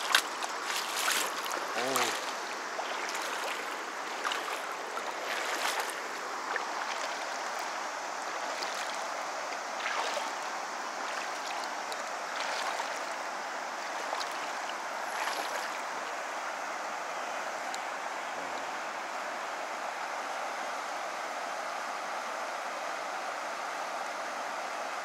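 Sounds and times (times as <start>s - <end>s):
stony river flowing: 0.0s - 25.0s.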